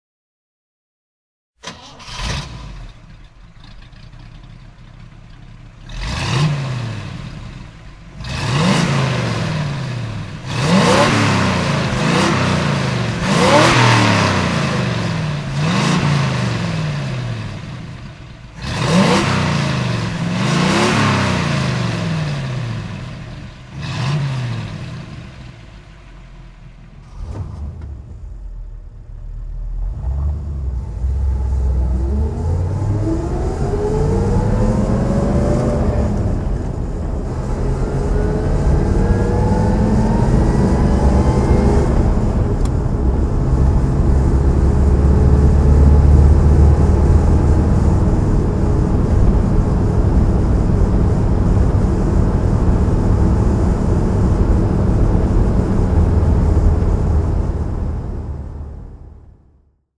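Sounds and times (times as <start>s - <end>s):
car engine idling and revving: 1.6s - 59.7s.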